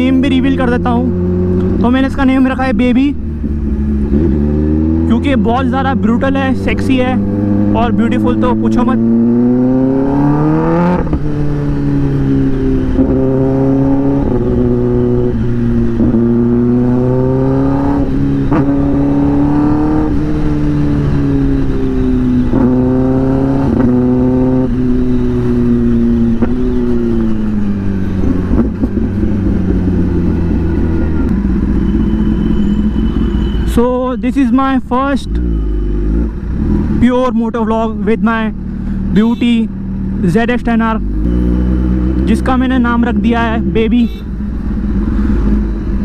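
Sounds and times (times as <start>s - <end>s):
motorcycle engine revving through gears: 0.0s - 33.8s, 35.0s - 46.0s.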